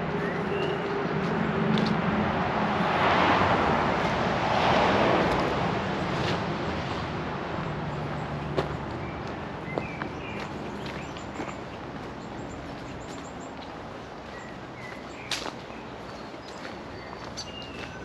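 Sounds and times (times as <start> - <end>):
vehicle tyre noise: 0.0 - 16.5.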